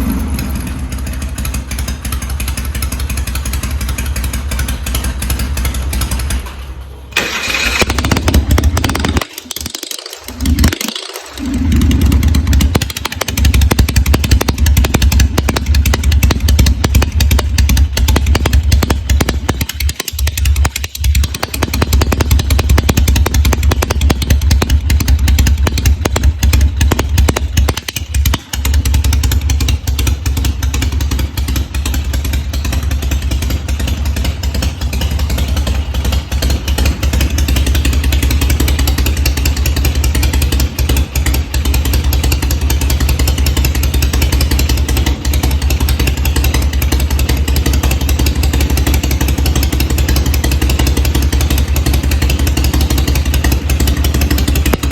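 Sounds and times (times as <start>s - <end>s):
motorcycle engine idling: 0.0s - 9.6s, 11.4s - 54.9s.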